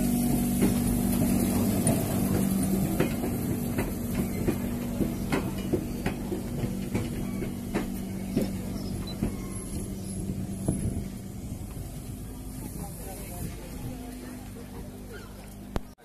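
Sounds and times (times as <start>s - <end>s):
electric tram humming: 0.0s - 16.0s
wheels clicking on track: 0.0s - 16.0s.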